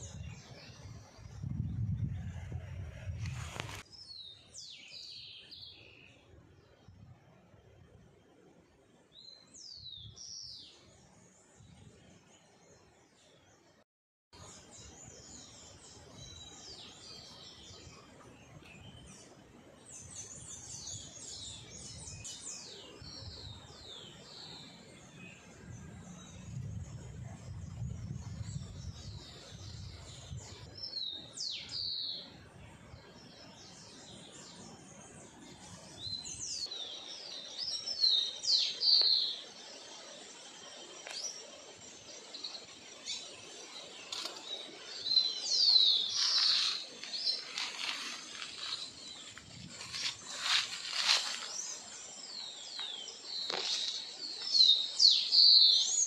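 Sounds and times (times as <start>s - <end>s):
wild birds chirping and singing: 0.0s - 13.7s, 14.4s - 56.0s
outdoor background: 0.0s - 56.0s.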